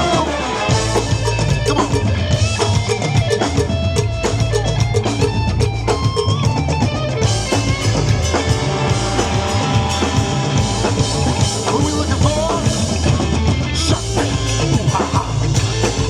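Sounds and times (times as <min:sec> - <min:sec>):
live band playing instrumental: 0:00.0 - 0:16.0.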